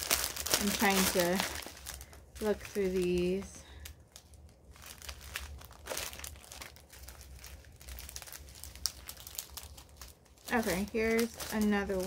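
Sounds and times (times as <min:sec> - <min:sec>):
plastic bags crinkling and rustling: 0:00.0 - 0:12.0.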